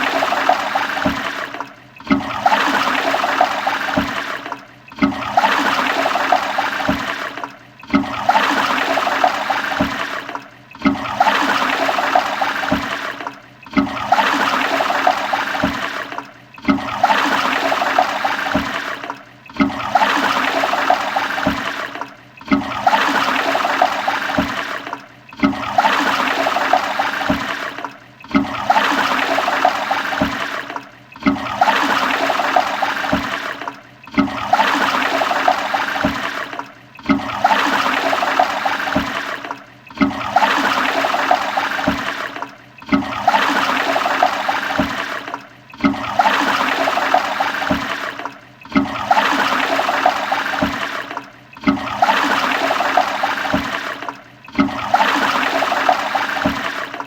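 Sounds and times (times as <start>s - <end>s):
toilet flushing: 0.0s - 57.0s.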